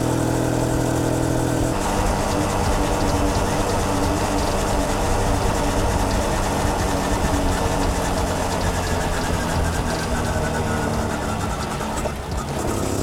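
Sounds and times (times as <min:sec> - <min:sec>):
moped engine running: 0:00.0 - 0:13.0
rushing noise: 0:00.0 - 0:13.0.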